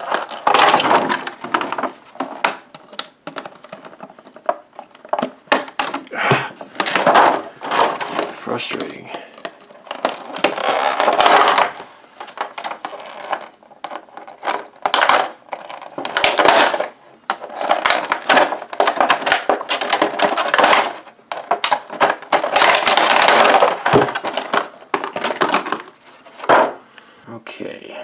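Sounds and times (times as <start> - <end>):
plastic packaging crinkling: 0.0 - 26.8.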